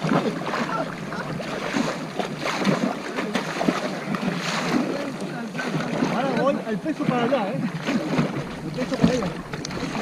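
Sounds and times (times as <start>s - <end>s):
paddle stroke splashes: 0.0s - 10.0s
water splashing around kayaks: 0.0s - 10.0s.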